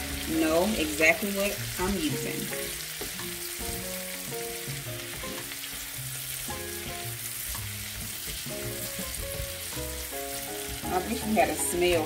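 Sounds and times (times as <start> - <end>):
background music: 0.0 - 12.0
vegetables sizzling in a pan: 0.0 - 12.0.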